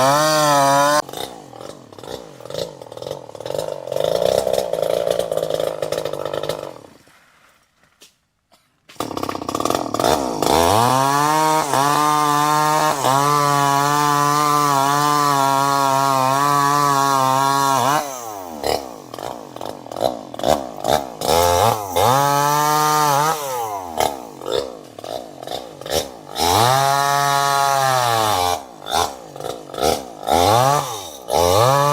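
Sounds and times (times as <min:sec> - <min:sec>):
chainsaw engine revving: 0:00.0 - 0:07.1, 0:08.9 - 0:31.9.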